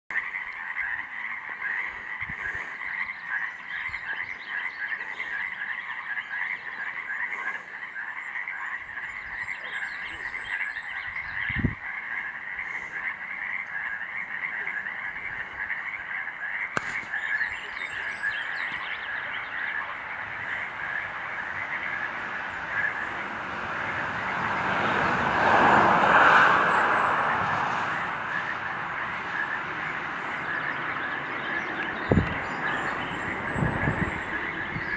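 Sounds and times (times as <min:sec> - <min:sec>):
frogs croaking chorus: 0:00.1 - 0:34.9.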